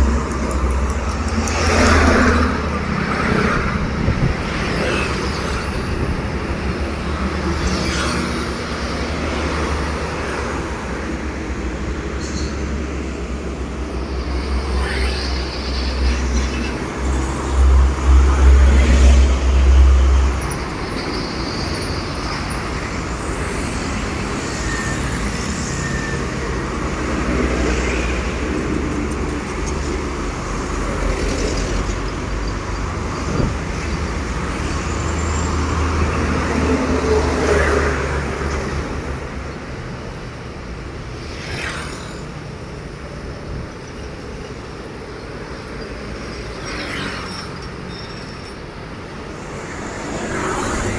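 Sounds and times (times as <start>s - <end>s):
heavy trucks engine rumble: 0.0s - 41.2s, 47.4s - 50.9s.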